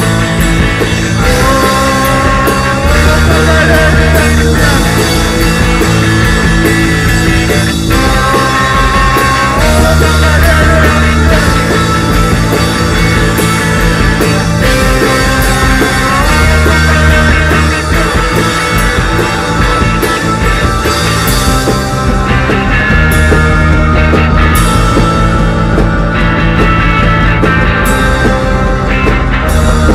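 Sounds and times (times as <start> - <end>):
bass guitar: 0.0 - 29.9
distorted electric guitars: 0.0 - 29.9
drum kit with cymbal hits: 0.0 - 29.9.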